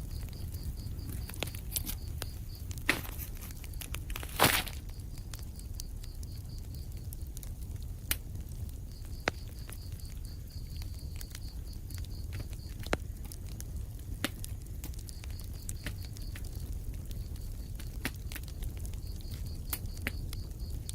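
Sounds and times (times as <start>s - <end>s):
sharp fire pops: 0.0s - 20.9s
wood fire crackling: 0.0s - 20.9s.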